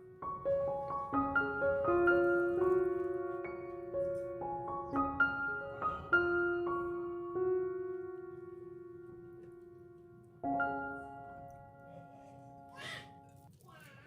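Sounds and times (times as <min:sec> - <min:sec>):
soft piano music: 0:00.0 - 0:13.5.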